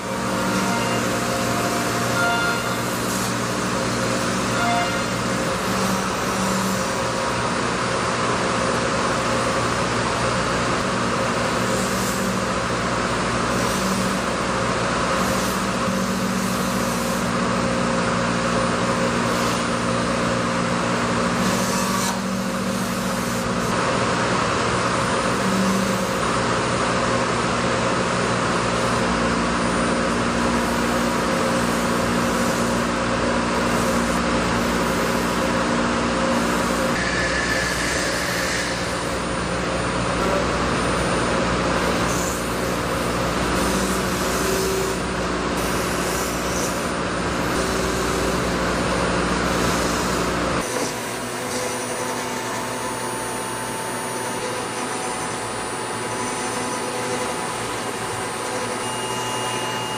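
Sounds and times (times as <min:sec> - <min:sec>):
cnc router milling foam: 0:00.0 - 0:59.9.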